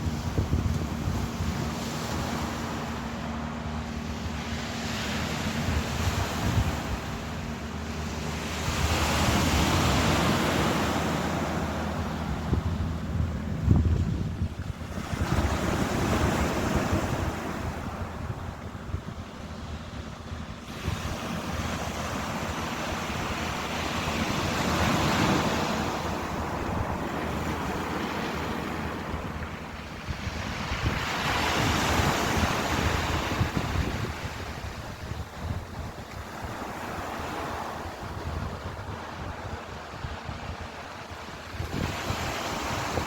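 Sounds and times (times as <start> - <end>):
waves breaking and washing in: 0.0 - 43.0
wind rumbling on microphone: 0.0 - 43.0.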